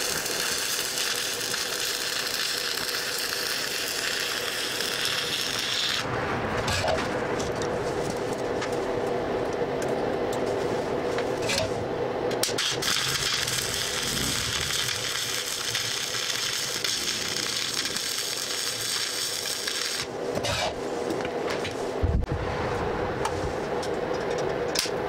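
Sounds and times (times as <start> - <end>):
arc welder crackling and sizzling: 0.0 - 22.0.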